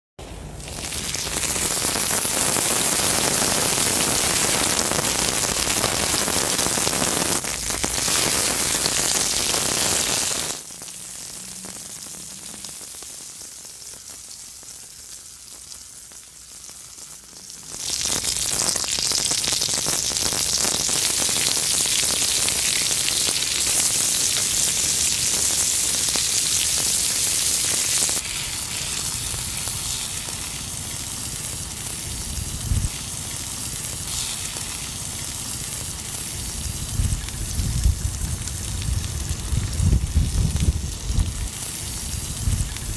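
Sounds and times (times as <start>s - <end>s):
steak sizzling on hot stone: 0.6s - 42.9s.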